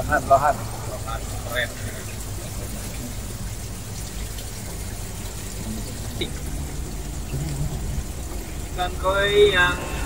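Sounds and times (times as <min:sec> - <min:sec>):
low steady hum: 0:00.0 - 0:10.0
water trickling and bubbling: 0:00.0 - 0:10.0.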